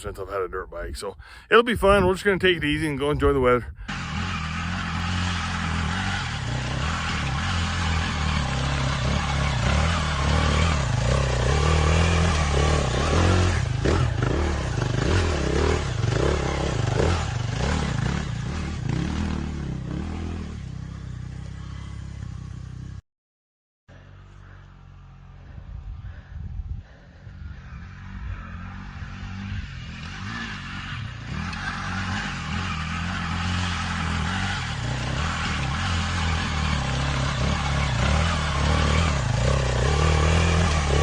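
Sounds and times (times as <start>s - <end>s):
dirt bike engine revving: 3.3s - 22.9s, 27.6s - 41.0s.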